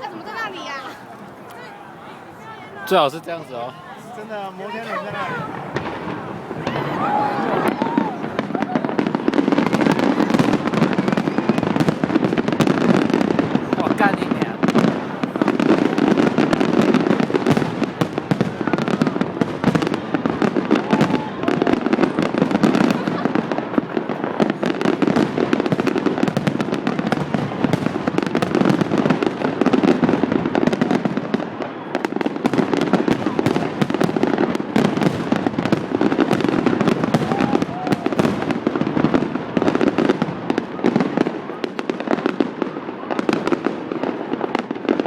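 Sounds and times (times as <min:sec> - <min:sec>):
fireworks popping and banging: 0:00.0 - 0:45.0.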